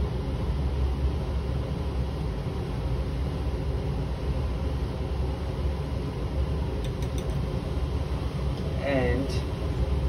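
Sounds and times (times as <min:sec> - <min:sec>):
fume hood exhaust rumble: 0:00.0 - 0:10.0.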